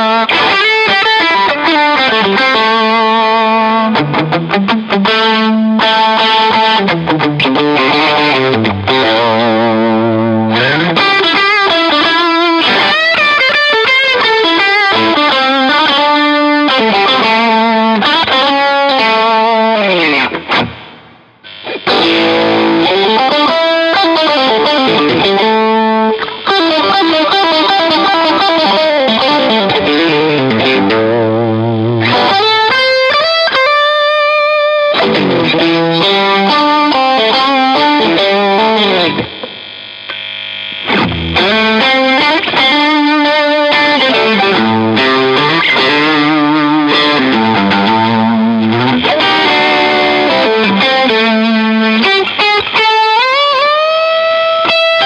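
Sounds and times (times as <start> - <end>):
backing track: 0.0 - 55.0
overdriven electric guitar lead: 0.0 - 55.0.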